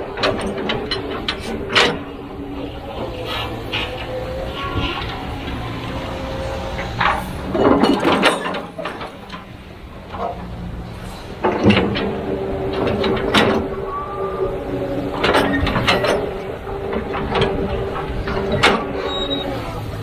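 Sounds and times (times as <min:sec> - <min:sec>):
sharp metallic clanks: 0:00.0 - 0:19.5
excavator engine and hydraulics: 0:00.0 - 0:20.0.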